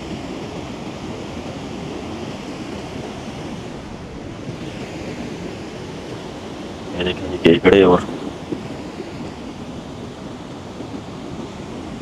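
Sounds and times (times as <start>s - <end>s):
sea waves washing on shore: 0.0s - 12.0s.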